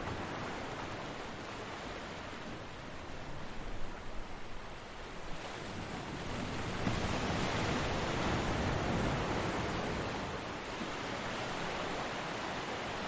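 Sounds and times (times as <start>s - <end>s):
ocean waves breaking: 0.0s - 4.1s, 5.2s - 13.0s.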